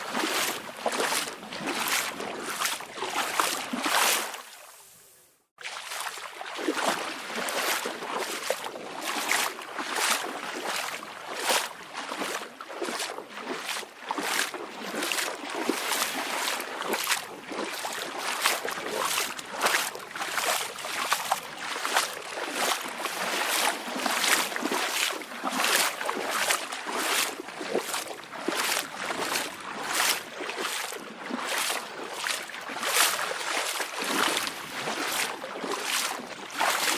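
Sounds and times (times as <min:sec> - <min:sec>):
steady wash of water: 0:00.0 - 0:05.0, 0:05.6 - 0:36.9
small waves lapping and splashing: 0:00.0 - 0:36.9.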